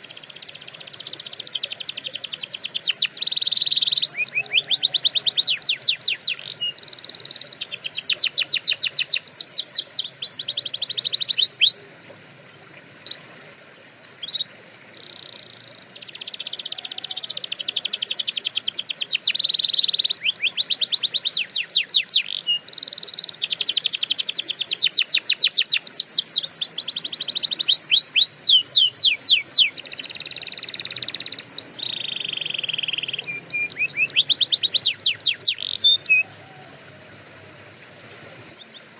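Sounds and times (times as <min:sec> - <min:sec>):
canary singing trills: 0:00.0 - 0:11.9, 0:14.0 - 0:37.0.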